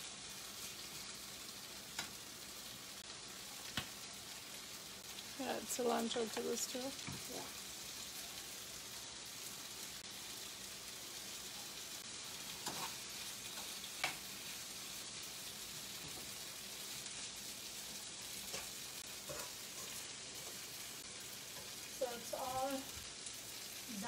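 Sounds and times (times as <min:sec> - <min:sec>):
chickpeas sizzling in a pan: 0:00.0 - 0:24.0.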